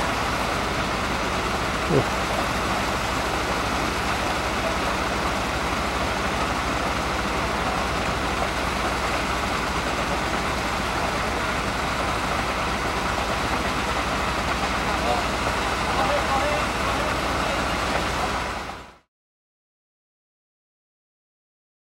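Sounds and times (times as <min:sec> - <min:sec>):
fire engine idling hum: 0:00.0 - 0:19.1.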